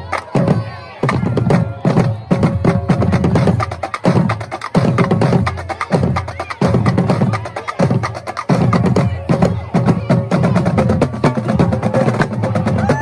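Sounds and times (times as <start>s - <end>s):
snare and tenor drums: 0.0s - 13.0s.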